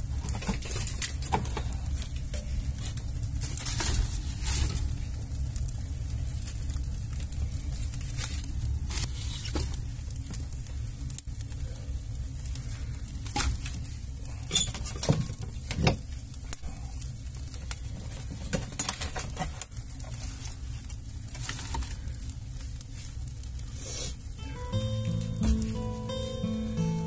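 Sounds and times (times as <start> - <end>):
fire crackling and popping: 0.0 - 27.0
fire rumbling: 0.0 - 27.0.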